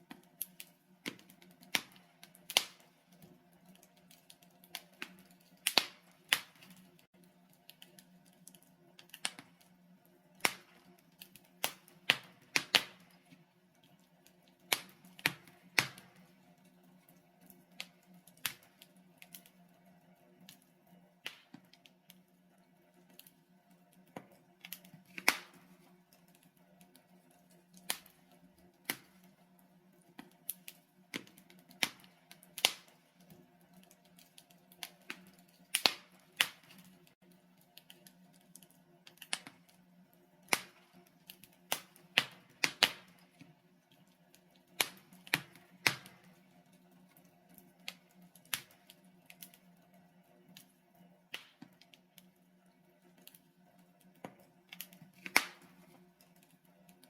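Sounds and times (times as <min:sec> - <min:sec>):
logs crackling and popping: 0:00.0 - 0:57.0.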